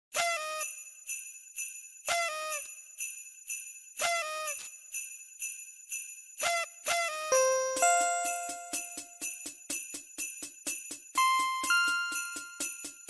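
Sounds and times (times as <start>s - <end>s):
jingle bells shaken: 0.5s - 13.0s.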